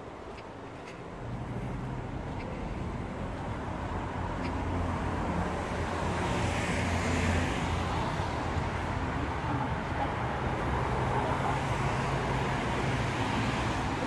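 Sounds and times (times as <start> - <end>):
traffic rumble and tyre noise: 0.0 - 14.0
vehicle passing: 0.6 - 14.0.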